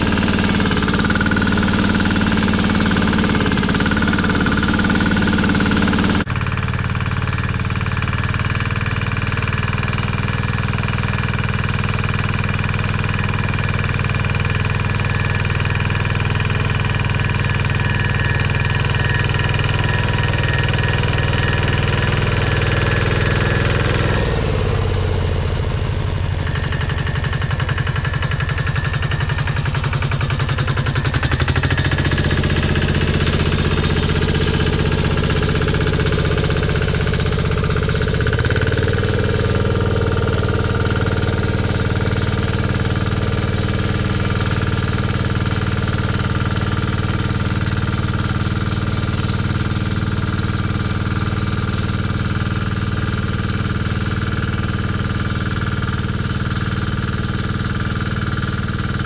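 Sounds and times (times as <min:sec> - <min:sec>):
rotary tiller churning soil: 0:00.0 - 0:59.0
tractor engine running under load: 0:00.0 - 0:59.0.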